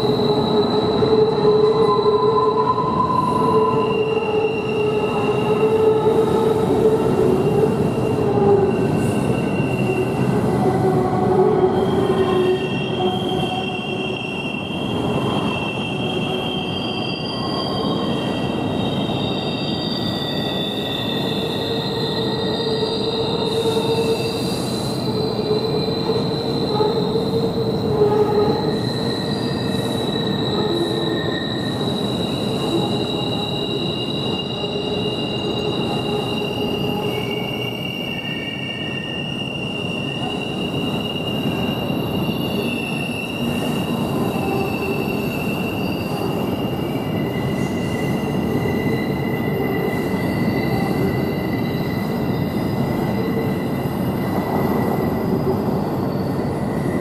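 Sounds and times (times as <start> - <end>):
freight train rumbling over bridge: 0.0 - 57.0
high wheel squeals: 0.0 - 57.0.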